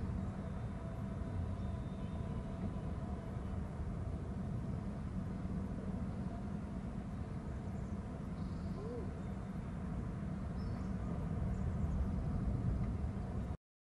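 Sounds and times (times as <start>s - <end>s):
low outdoor rumble: 0.0s - 13.6s.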